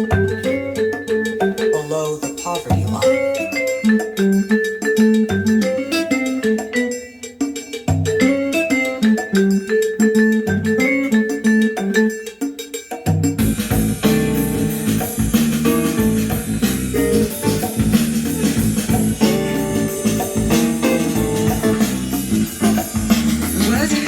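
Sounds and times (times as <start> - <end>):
cool jazz music: 0.0 - 24.0.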